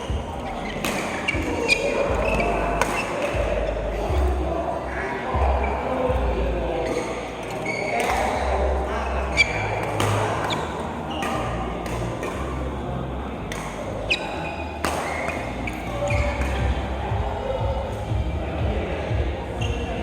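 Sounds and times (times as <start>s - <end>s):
low hum of hall: 0.0s - 20.0s.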